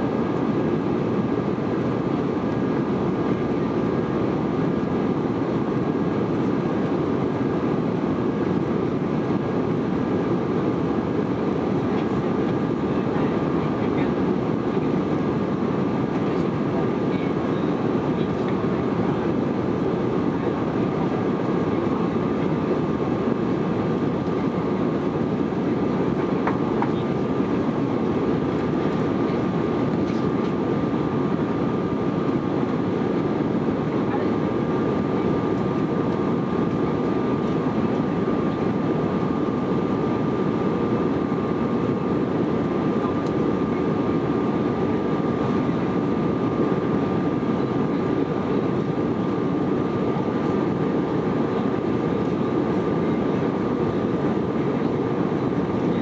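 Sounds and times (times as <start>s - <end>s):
aircraft cabin engine rush: 0.0s - 56.0s.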